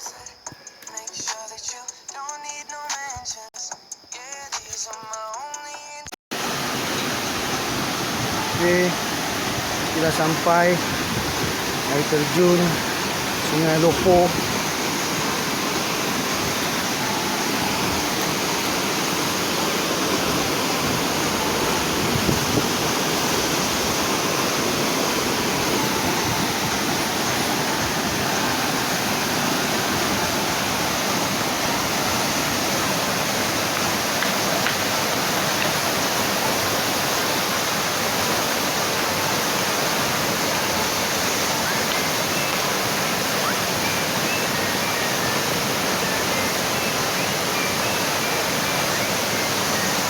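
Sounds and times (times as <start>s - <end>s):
waterfall rushing: 6.3s - 50.0s.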